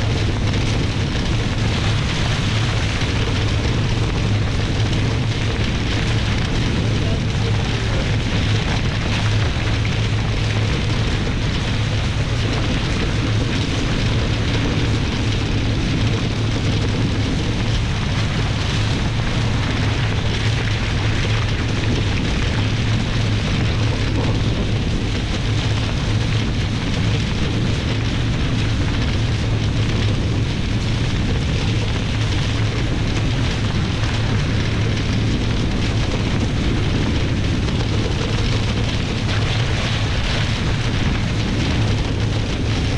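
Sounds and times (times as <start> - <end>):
low rumble: 0.0 - 42.9
wind buffeting microphone: 0.0 - 42.9.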